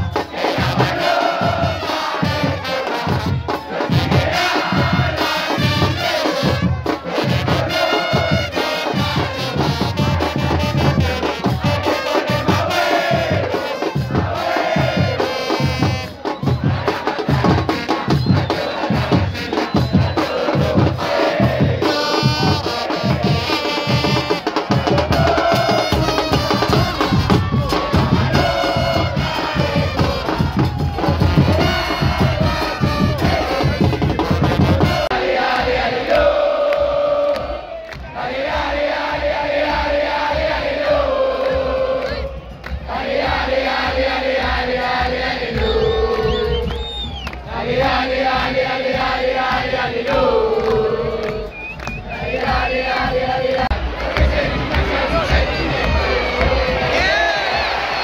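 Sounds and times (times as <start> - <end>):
bass drums beating: 0.0 - 58.0
football crowd chanting: 0.0 - 58.0.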